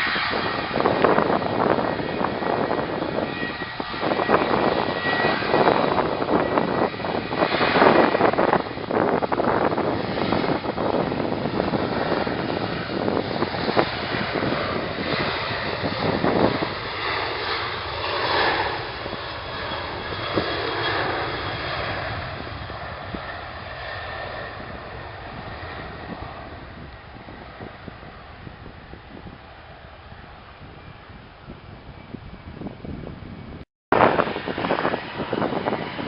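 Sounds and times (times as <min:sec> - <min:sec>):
aircraft engines passing: 0:00.0 - 0:36.0.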